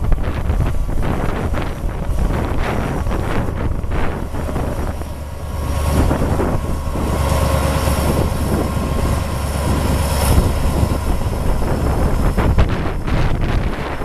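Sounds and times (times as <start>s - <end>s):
locomotive engine drone: 0.0s - 14.0s
wind hiss on microphone: 0.0s - 14.0s.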